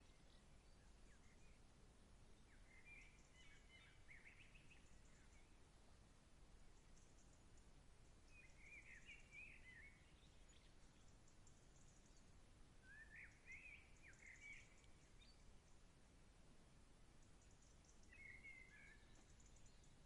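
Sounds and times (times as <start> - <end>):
faint background hiss: 0.0 - 20.0
songbird chirping: 0.0 - 20.0.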